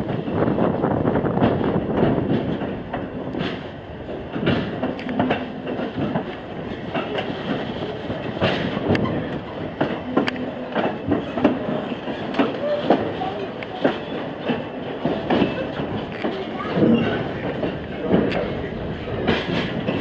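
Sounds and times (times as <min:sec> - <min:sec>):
train rumbling on rails: 0:00.0 - 0:20.0
wheels clicking over track: 0:00.0 - 0:20.0.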